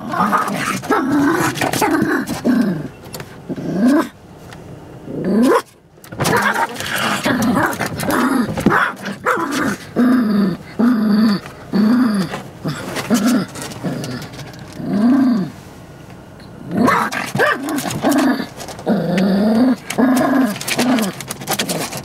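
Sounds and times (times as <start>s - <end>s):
small dog growling and barking: 0.0s - 4.2s, 5.1s - 15.6s, 16.6s - 22.0s.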